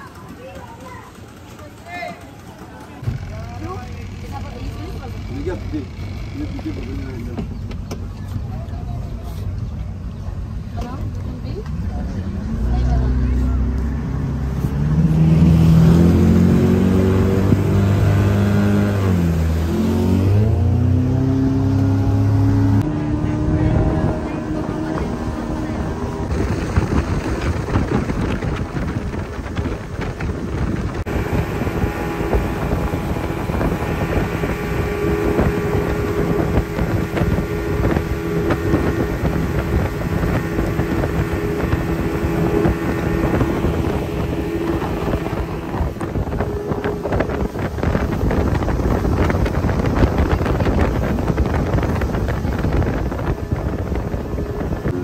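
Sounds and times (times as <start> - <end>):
outboard engine drone: 0.0 - 55.0
wind buffeting microphone: 3.0 - 55.0
rushing water: 7.0 - 55.0.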